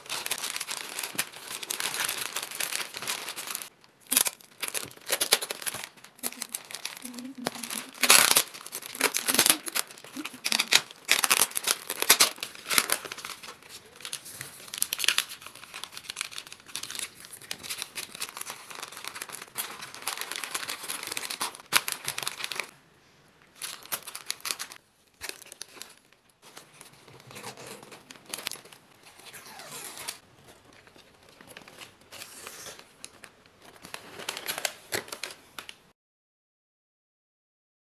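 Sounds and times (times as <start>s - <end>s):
wrapping paper crinkling: 0.0s - 22.7s, 23.6s - 35.8s.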